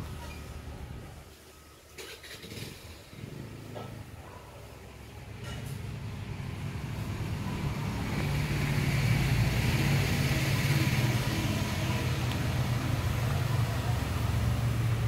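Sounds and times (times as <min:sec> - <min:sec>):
engine running: 0:02.2 - 0:15.0.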